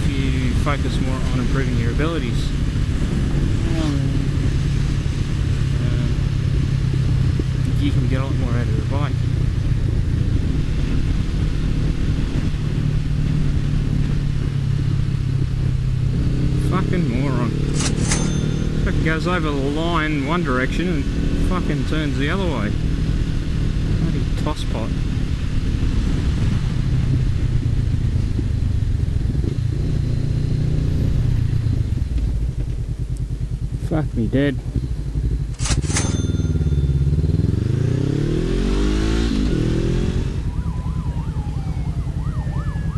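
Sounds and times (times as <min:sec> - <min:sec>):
motorcycle engine running: 0:00.0 - 0:42.9
wind noise: 0:00.0 - 0:42.9.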